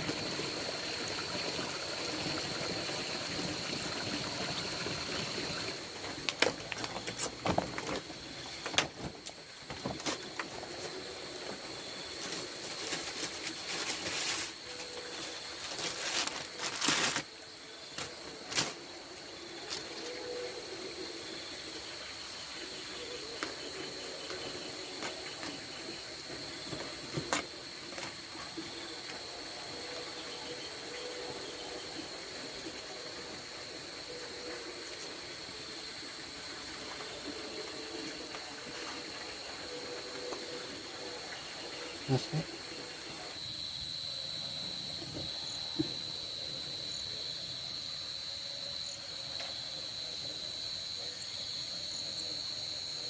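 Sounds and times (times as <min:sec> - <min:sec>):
insects trilling: 0:00.0 - 0:53.0.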